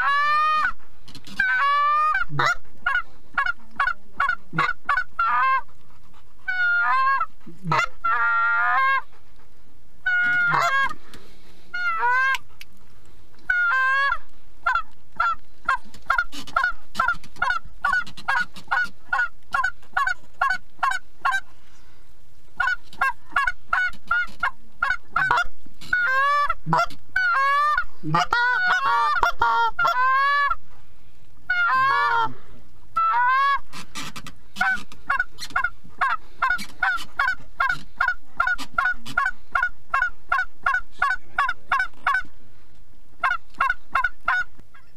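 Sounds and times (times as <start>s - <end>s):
goose honking and clucking: 0.0s - 5.8s, 6.4s - 9.2s, 10.0s - 12.5s, 13.4s - 21.5s, 22.6s - 30.6s, 31.5s - 42.3s, 43.2s - 44.9s.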